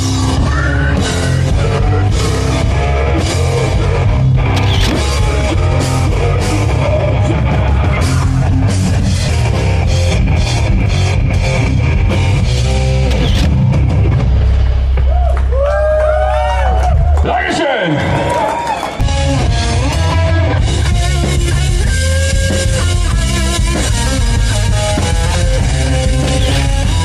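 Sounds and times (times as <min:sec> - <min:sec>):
heavy metal music: 0:00.0 - 0:27.0.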